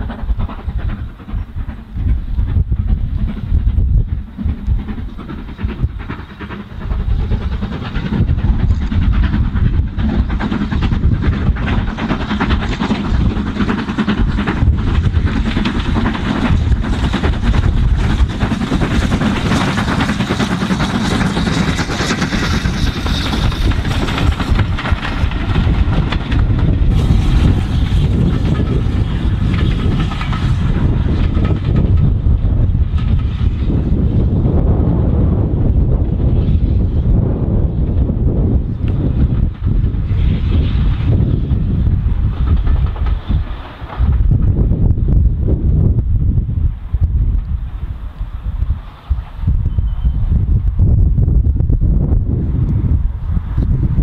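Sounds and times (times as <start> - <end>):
distant steam train: 0.0 - 54.0
steam locomotive chuffing: 0.0 - 54.0
wheels on rails: 0.0 - 54.0.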